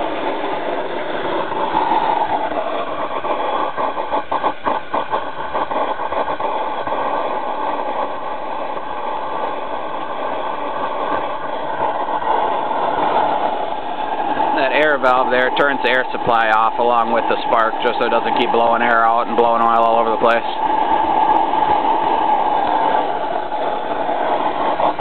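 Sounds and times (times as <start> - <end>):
oil burner flame roaring: 0.0 - 25.0.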